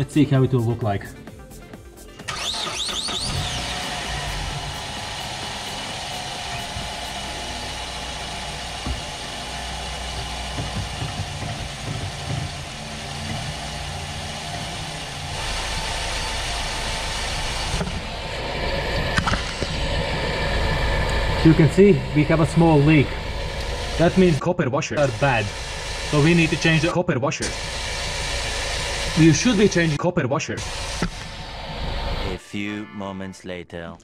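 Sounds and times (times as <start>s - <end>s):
car engine idling: 2.3s - 24.4s, 25.0s - 30.0s, 30.6s - 32.4s.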